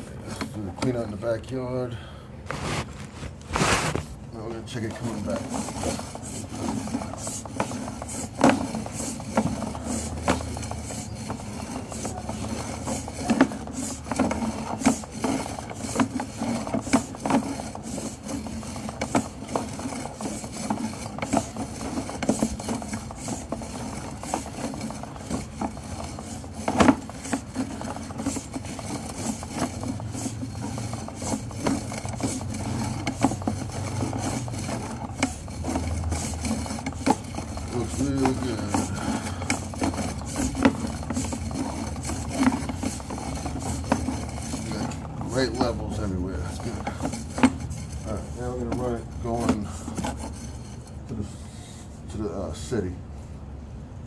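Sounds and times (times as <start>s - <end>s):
camera cable scraping inside pipe: 2.4s - 52.2s.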